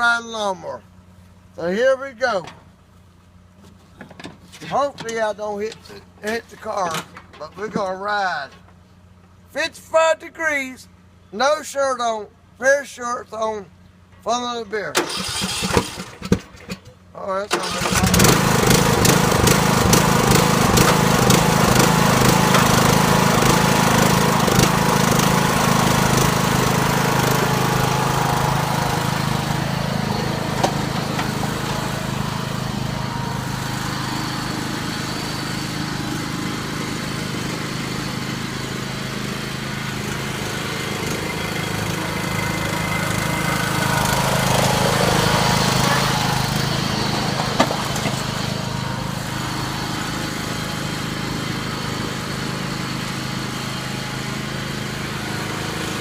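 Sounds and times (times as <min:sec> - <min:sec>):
riding lawnmower engine running: 0:00.0 - 0:56.0.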